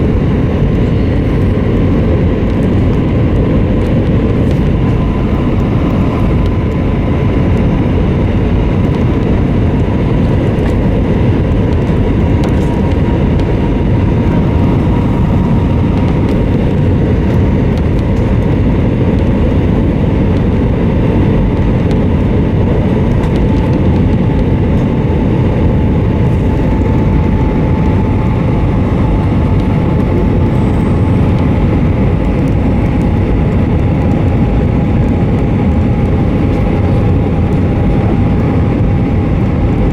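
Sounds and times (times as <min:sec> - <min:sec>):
airplane cabin engine rush: 0:00.0 - 0:39.9
faint engine whine: 0:00.0 - 0:39.9.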